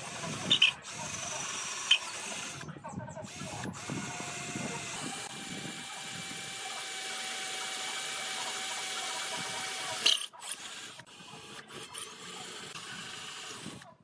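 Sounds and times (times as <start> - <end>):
cordless drill boring into wood: 0.0 - 13.9.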